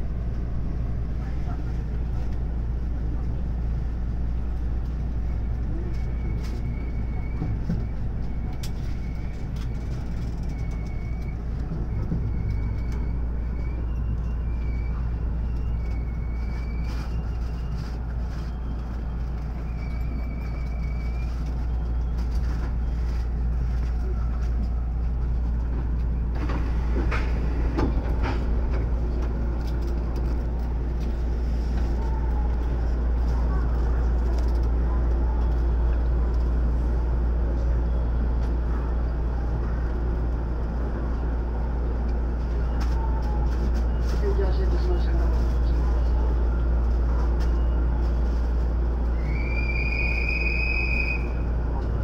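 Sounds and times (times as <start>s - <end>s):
electric train rumble and hum: 0.0s - 52.0s.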